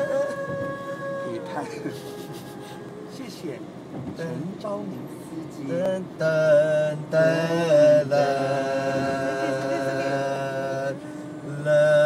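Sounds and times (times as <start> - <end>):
voices singing a cappella: 0.0 - 3.0, 4.0 - 12.0.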